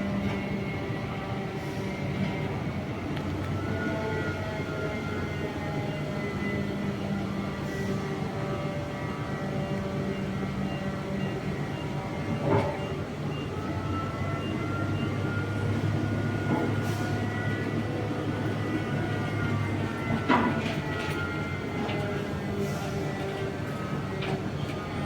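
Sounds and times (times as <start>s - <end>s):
heavy machine humming: 0.0s - 25.0s.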